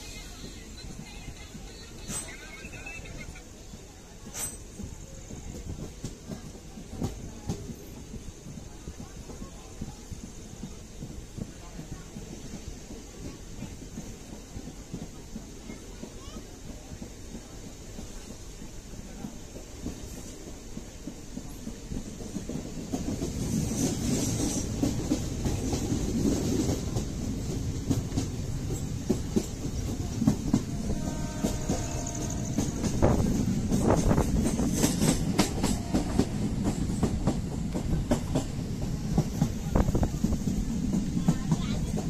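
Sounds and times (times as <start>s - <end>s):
train rumble inside coach: 0.0s - 42.0s
wheels clicking over rail joints: 0.4s - 42.0s.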